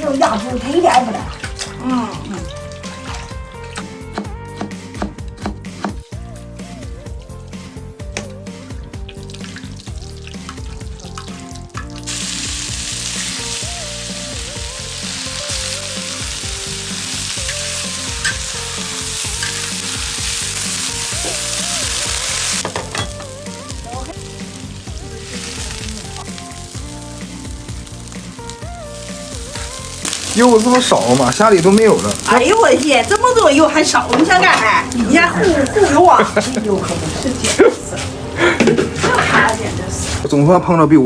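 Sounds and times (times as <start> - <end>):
food sizzling in hot oil: 0.0 - 38.1.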